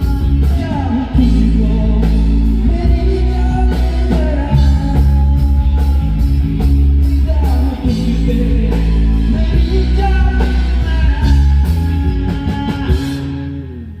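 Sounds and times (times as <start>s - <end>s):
live rock band playing: 0.0s - 14.0s
person singing: 0.0s - 14.0s.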